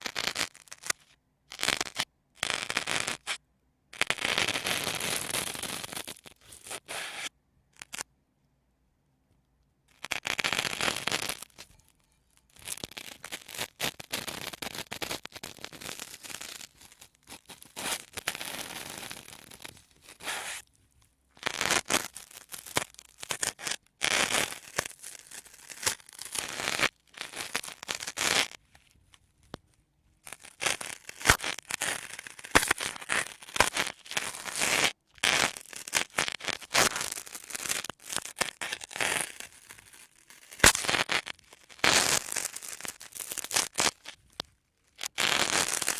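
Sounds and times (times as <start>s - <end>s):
sponges crackling and scratching: 4.0s - 8.0s, 12.4s - 45.9s.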